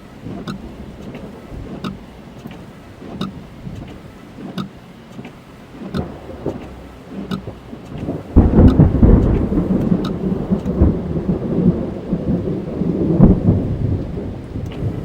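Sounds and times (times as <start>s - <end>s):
thunder rumbling: 0.0s - 4.2s, 5.7s - 15.0s
rain drumming on car body: 0.0s - 15.0s.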